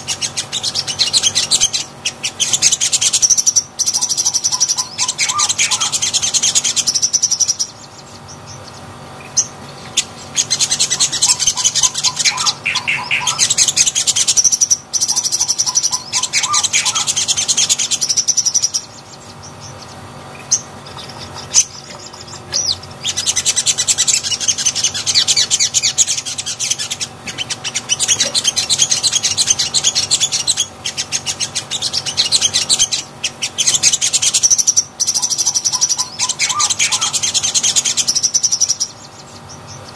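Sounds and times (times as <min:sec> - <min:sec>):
bird high chattering song: 0:00.0 - 0:39.9.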